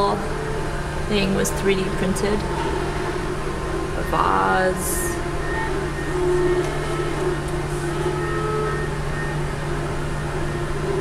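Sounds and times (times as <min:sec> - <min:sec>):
low machine drone: 0:00.0 - 0:11.0
stepper motors whining: 0:00.0 - 0:11.0.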